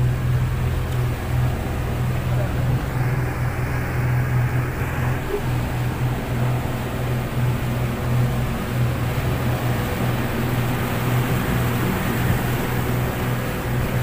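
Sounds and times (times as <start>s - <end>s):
outboard motors droning: 0.0s - 14.0s
rush of boat wake: 0.0s - 14.0s.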